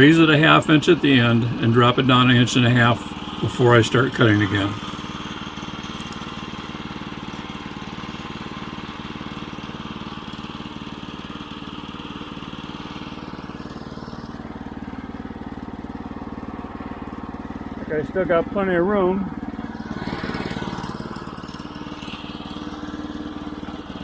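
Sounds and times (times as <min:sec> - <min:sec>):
gasoline engine running: 0:00.0 - 0:24.0.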